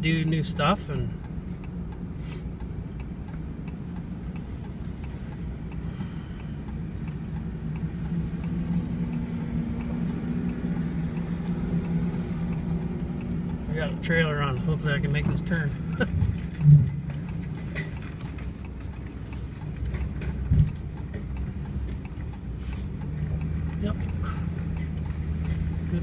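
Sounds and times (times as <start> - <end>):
turn signal ticking: 0.0 - 26.0
vehicle engine drone: 0.0 - 26.0.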